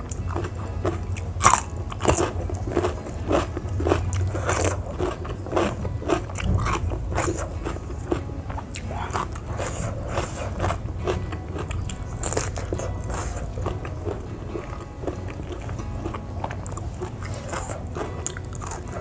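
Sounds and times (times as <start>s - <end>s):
crunchy chewing and biting: 0.0s - 19.0s.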